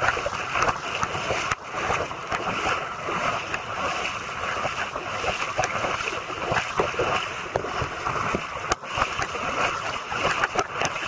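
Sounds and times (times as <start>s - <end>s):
heavy rain splashing on water: 0.0s - 11.0s.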